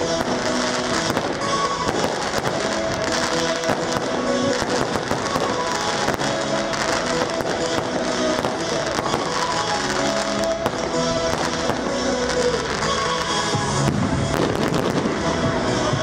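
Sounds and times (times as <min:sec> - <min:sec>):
fireworks bangs and crackles: 0:00.0 - 0:16.0
music with sustained notes: 0:00.0 - 0:16.0.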